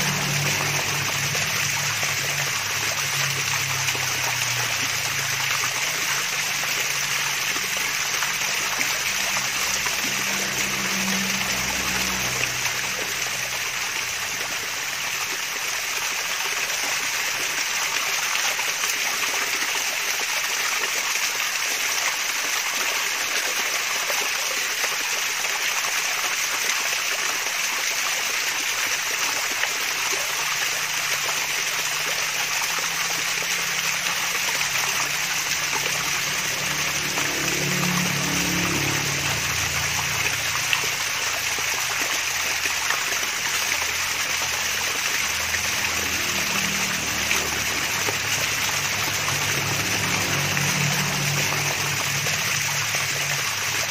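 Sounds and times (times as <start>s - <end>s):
small waterfall splashing: 0.0s - 53.9s.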